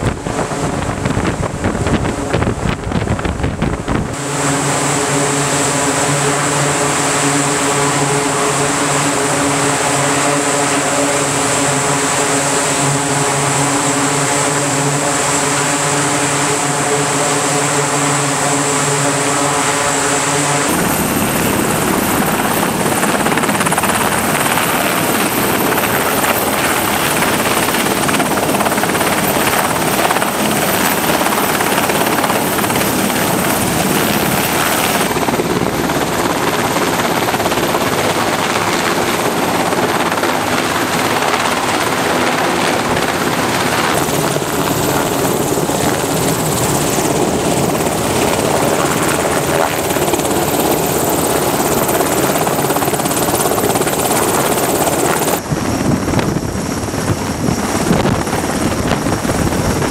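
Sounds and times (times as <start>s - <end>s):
helicopter rotors and engines: 0.0s - 59.9s
rushing wind: 0.0s - 59.9s.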